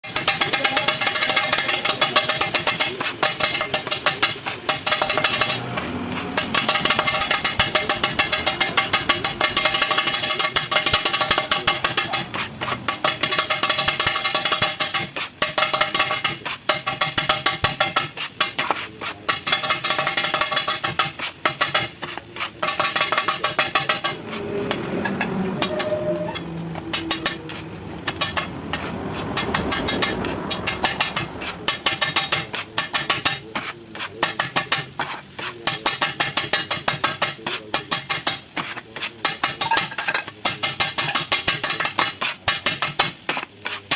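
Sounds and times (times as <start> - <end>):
frying sizzle: 0.0 - 43.9
metal spatulas clanging on griddle: 0.0 - 43.9.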